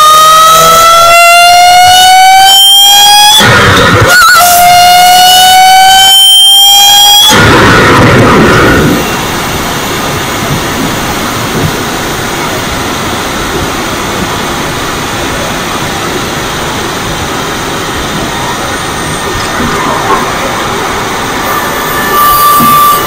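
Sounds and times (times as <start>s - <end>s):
road noise: 1.3s - 23.0s.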